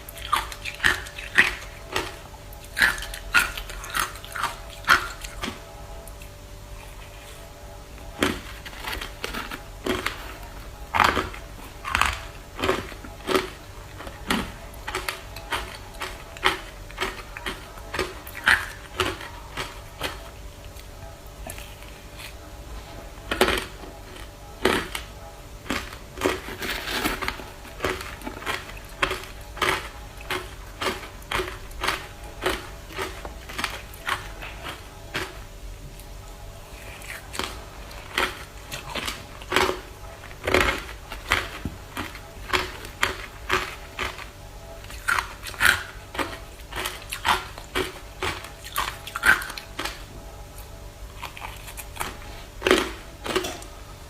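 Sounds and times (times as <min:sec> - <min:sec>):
ice being chewed: 0:00.0 - 0:53.8.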